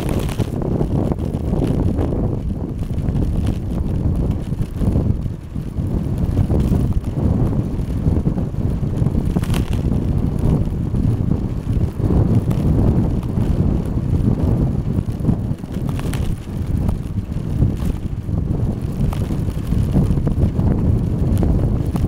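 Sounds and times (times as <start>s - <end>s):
bicycle riding on asphalt: 0.0s - 22.0s
wind rushing over microphone: 0.0s - 22.0s.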